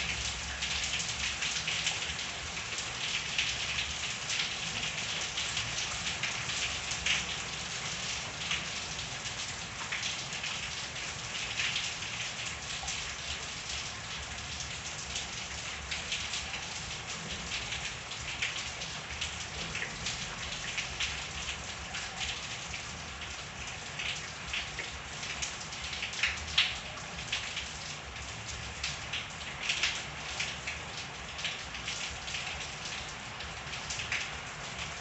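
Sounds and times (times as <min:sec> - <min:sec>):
rain falling: 0:00.0 - 0:35.0
raindrops tapping on surfaces: 0:00.0 - 0:35.0.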